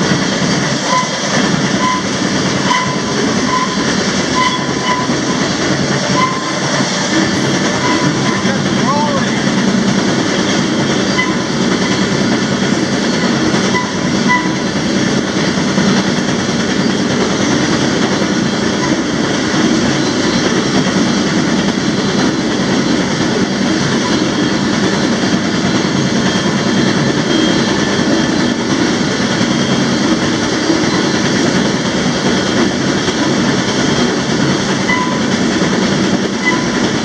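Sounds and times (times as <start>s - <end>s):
train wheels on rail: 0.0s - 37.0s.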